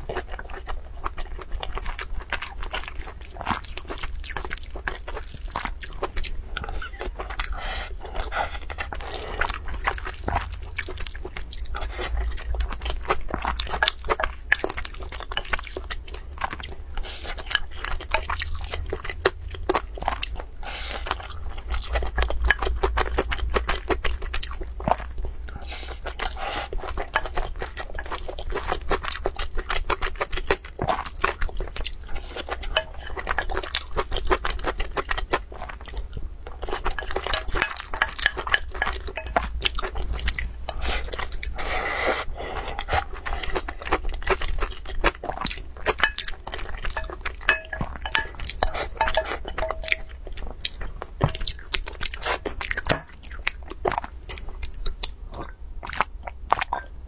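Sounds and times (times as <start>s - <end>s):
wet chewing and crunching: 0.0s - 57.0s.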